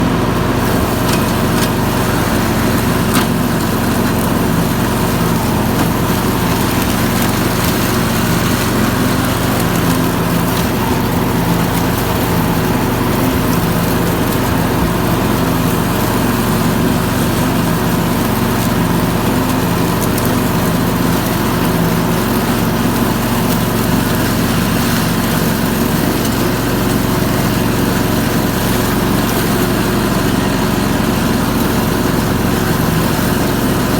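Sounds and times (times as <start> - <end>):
ride-on mower engine running: 0.0 - 33.9.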